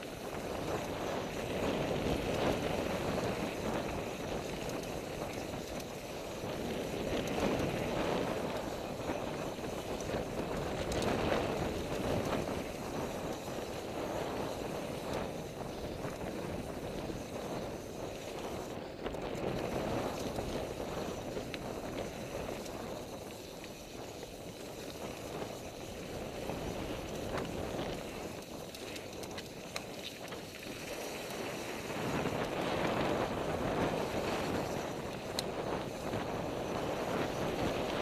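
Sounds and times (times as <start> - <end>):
bike clicks and rattles: 0.0 - 38.0
wind rushing over microphone: 0.0 - 38.0.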